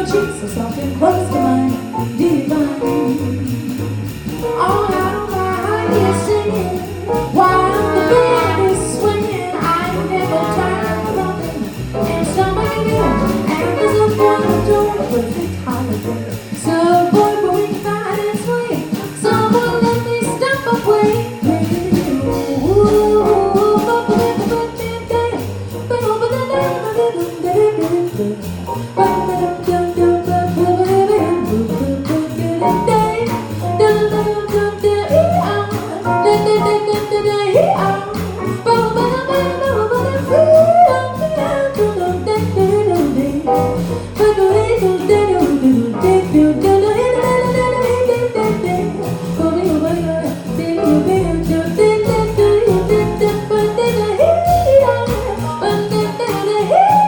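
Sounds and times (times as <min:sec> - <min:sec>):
jazz band playing swing: 0:00.0 - 0:57.0.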